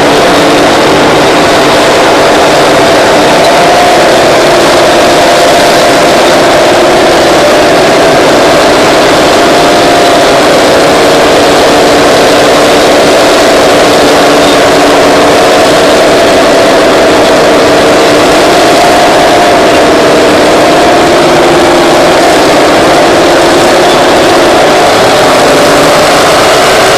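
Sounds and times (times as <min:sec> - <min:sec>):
bulldozer diesel engines running: 0:00.0 - 0:26.9.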